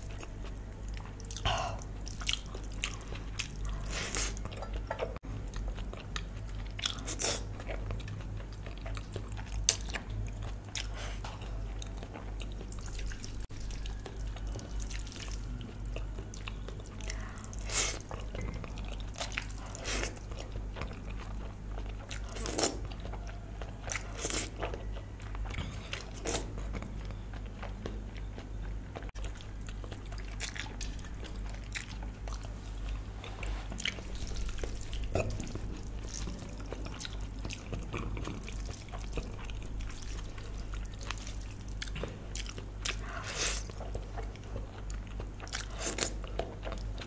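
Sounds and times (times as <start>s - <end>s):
person chewing: 0.0s - 47.0s
steady low hum: 0.0s - 47.0s.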